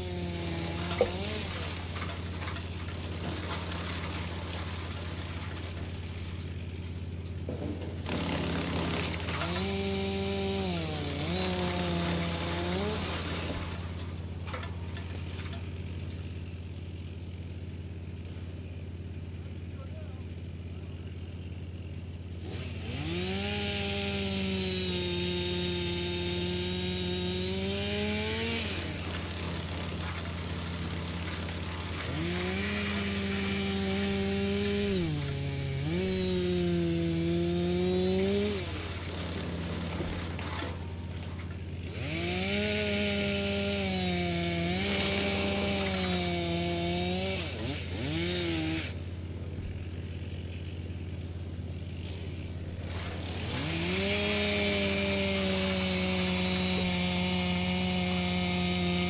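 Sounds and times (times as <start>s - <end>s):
wood chipper engine: 0.0s - 59.0s
wood grinding in chipper: 0.0s - 59.0s.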